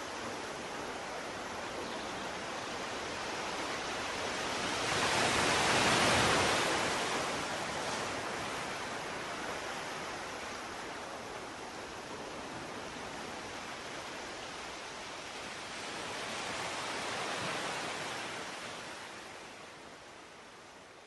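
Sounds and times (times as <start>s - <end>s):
sea surf: 2.3s - 19.4s.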